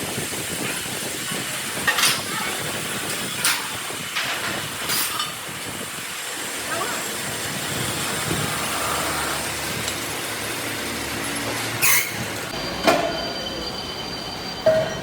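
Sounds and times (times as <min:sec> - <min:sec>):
workshop machine noise: 0:00.0 - 0:15.0.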